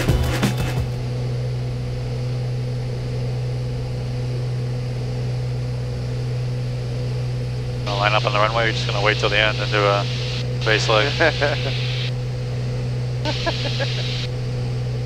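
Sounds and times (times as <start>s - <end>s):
propeller plane engines droning: 0.8s - 15.0s.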